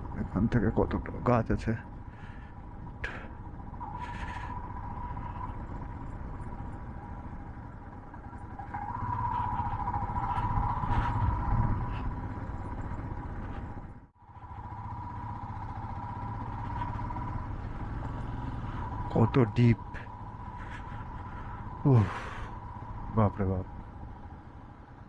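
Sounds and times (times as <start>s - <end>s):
motorcycle engine drone: 0.0s - 25.0s.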